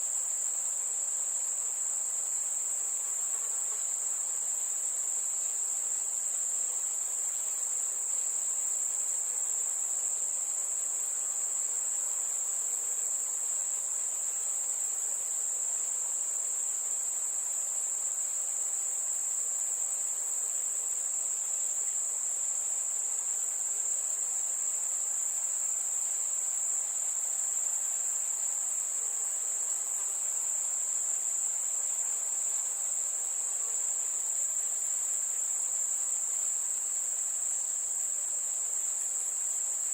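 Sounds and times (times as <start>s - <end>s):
crickets trilling: 0.0s - 39.9s
faint background hiss: 0.0s - 39.9s.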